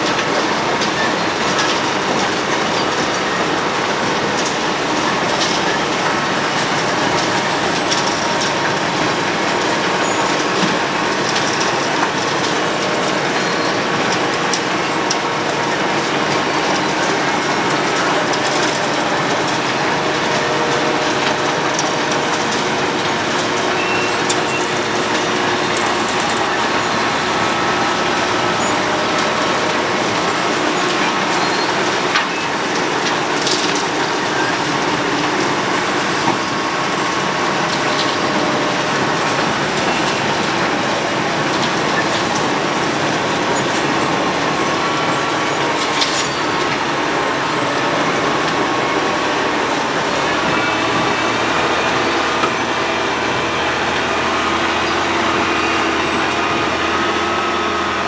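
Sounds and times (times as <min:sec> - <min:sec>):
road milling machine running: 0:00.0 - 0:58.0.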